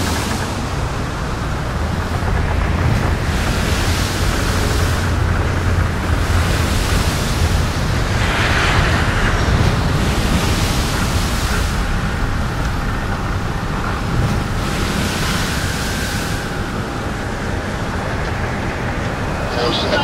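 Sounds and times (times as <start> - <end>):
loud rushing noise: 0.0 - 20.0
low rumble: 0.0 - 20.0.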